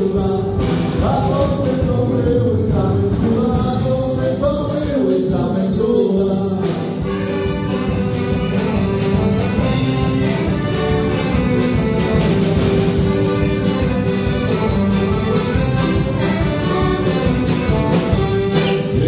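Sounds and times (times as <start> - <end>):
drum kit keeping time: 0.0 - 19.0
folk dance band playing: 0.0 - 19.0.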